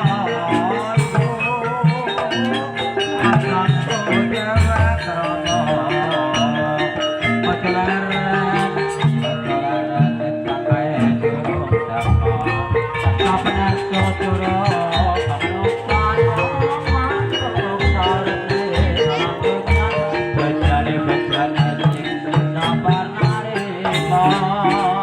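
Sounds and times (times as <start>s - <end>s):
gamelan music with drums: 0.0s - 25.0s.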